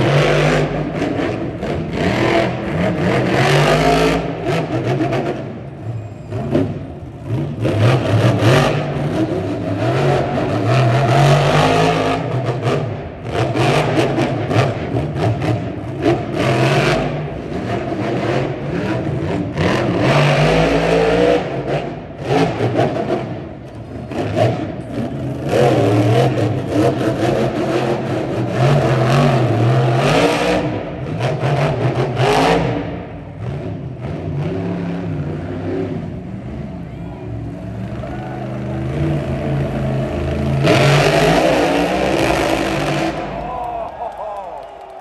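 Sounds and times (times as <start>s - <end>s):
truck engine revving: 0.0s - 43.8s.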